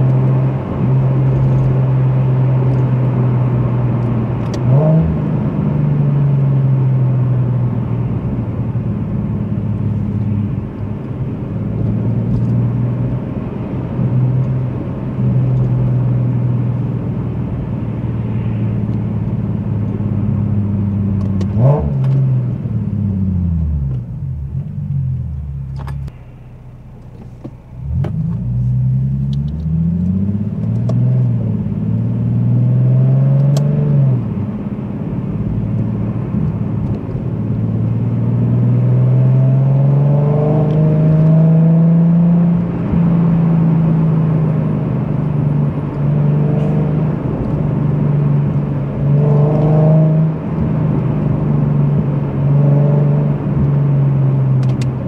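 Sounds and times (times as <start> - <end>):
car engine and exhaust revving: 0.0 - 55.0.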